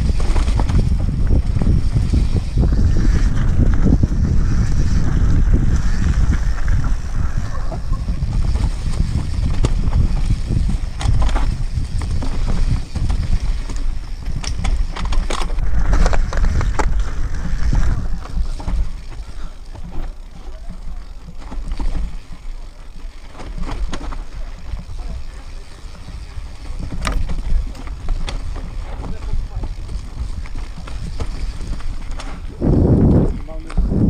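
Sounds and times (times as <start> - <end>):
wind buffeting microphone: 0.0 - 20.1, 24.2 - 34.0
bike knocks and clatters: 0.0 - 34.0
bike rumbling and rattling: 0.0 - 34.0.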